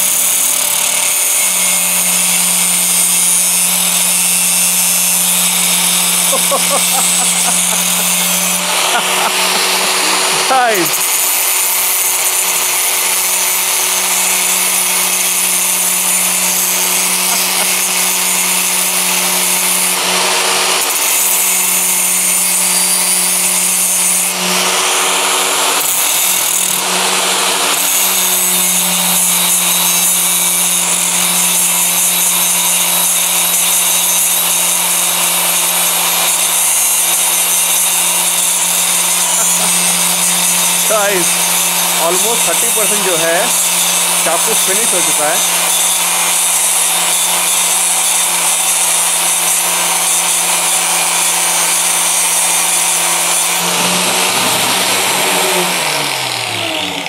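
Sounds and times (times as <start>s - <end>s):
angle grinder grinding metal: 0.0s - 57.0s
angle grinder motor hum: 0.0s - 57.0s.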